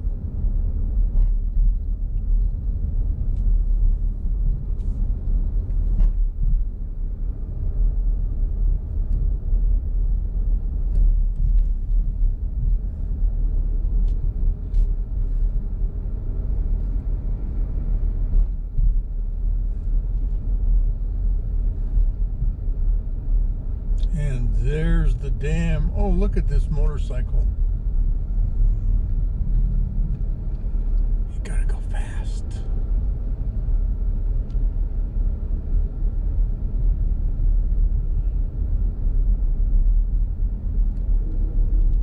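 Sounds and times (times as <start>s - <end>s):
car interior road rumble: 0.0s - 42.0s.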